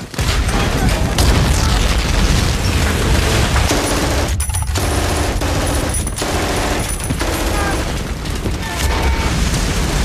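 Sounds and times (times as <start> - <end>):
explosions: 0.0 - 5.6, 6.2 - 10.0
rapid machine-gun fire: 0.0 - 10.0.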